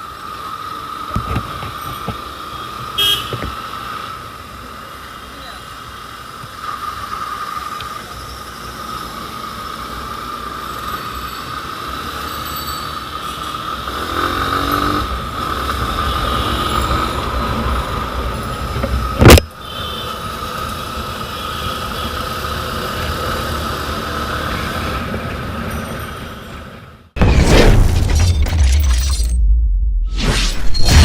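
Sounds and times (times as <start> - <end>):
motorcycle engine and road rumble: 0.0 - 27.2.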